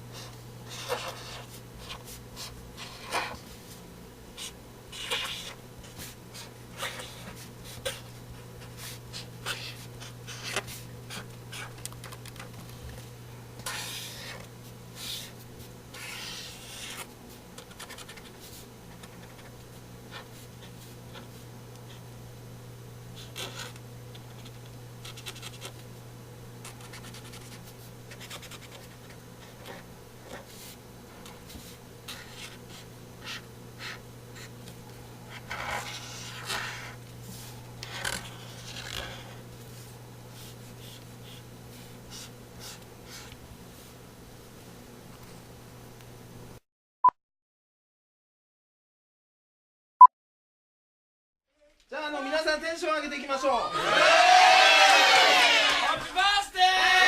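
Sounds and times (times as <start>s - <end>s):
low electrical hum: 0.0s - 46.6s, 51.5s - 57.0s.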